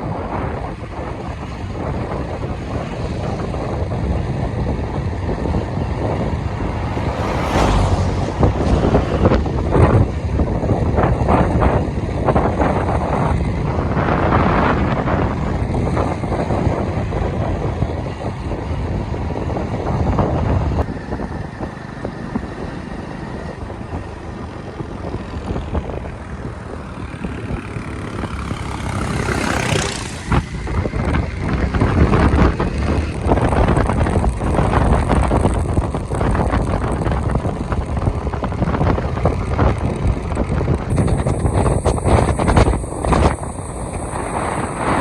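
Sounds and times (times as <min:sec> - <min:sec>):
vehicle running: 0:00.0 - 0:45.0
wind buffeting microphone: 0:00.0 - 0:45.0.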